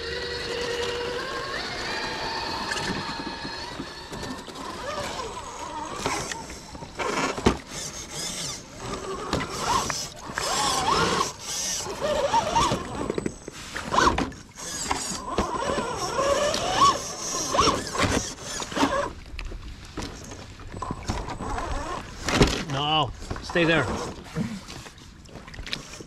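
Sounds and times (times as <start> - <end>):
electric motor and gears whining: 0.0 - 19.2, 20.2 - 25.0.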